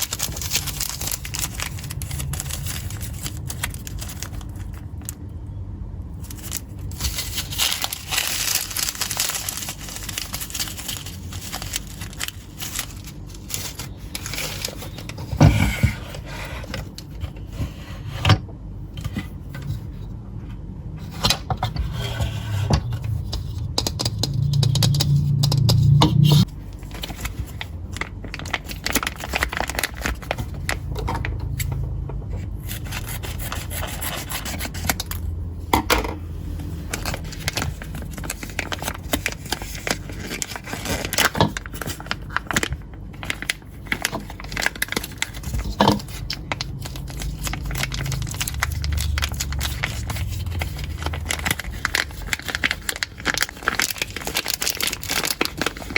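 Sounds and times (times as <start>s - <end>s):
low hum: 0.0s - 40.0s, 46.5s - 54.0s.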